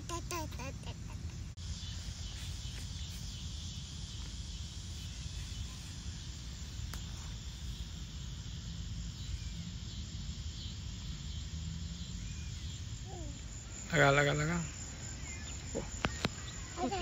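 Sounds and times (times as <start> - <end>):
high-pitched insect hum: 0.0 - 17.0.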